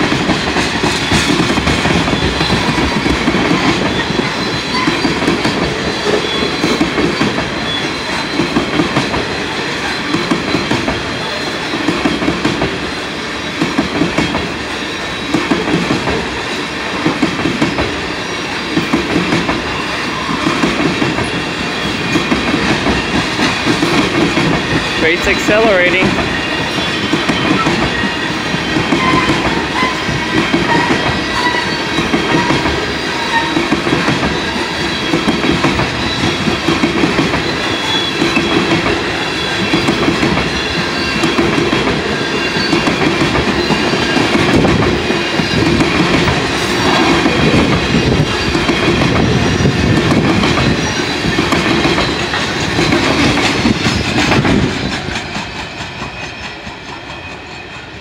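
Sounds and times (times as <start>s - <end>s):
train cars rumbling past: 0.0s - 58.0s.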